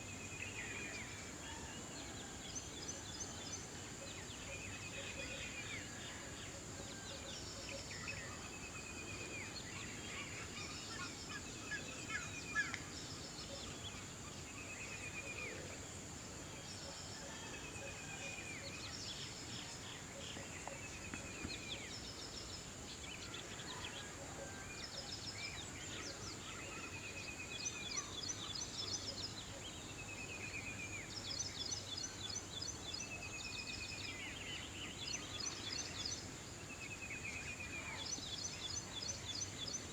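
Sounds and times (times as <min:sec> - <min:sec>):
outdoor background noise: 0:00.0 - 0:39.9.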